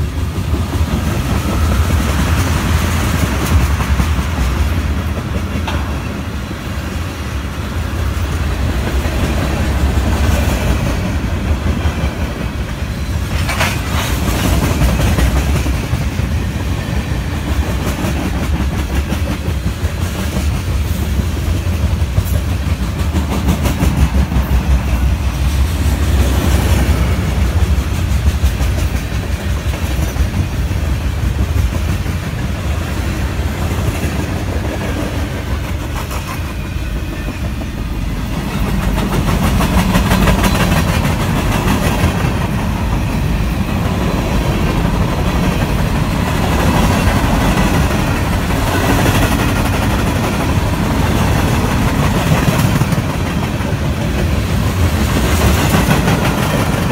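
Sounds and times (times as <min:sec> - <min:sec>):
wheels clicking over rail joints: 0:00.0 - 0:07.1, 0:07.8 - 0:56.9
train wheels rumbling on rails: 0:00.0 - 0:56.9.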